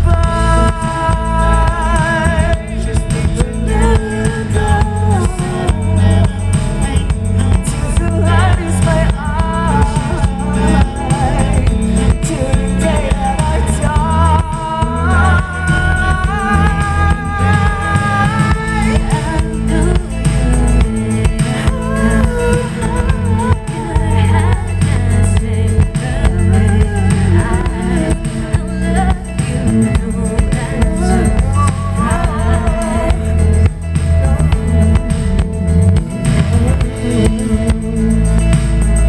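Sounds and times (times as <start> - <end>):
pop song: 0.0 - 39.0.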